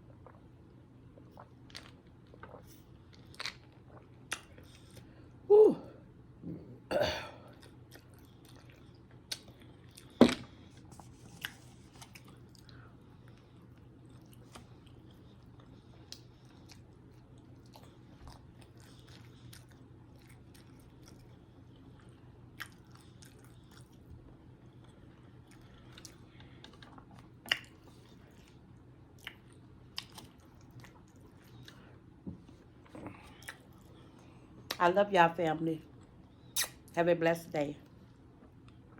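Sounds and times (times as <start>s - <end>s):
person chewing food: 0.0s - 5.1s, 7.5s - 34.8s.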